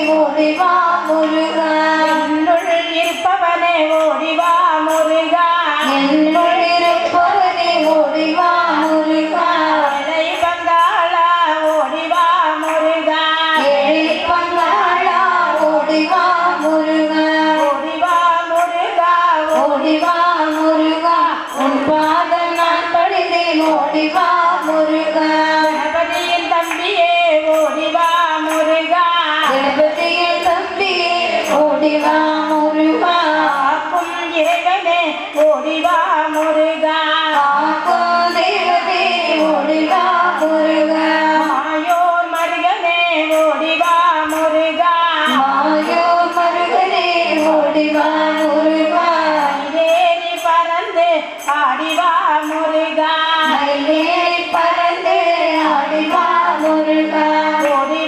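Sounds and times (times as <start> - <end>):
women singing together: 0.0 - 58.0.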